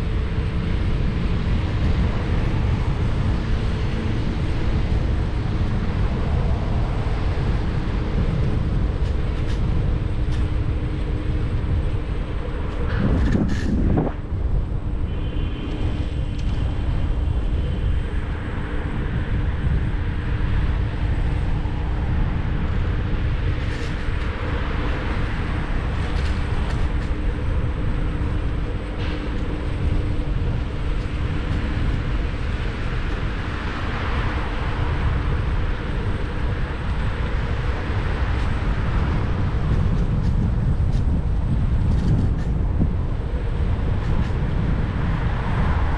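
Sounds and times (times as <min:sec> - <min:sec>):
low hum: 0:00.0 - 0:45.9
road and traffic noise: 0:00.0 - 0:45.9
wind on microphone: 0:00.0 - 0:45.9.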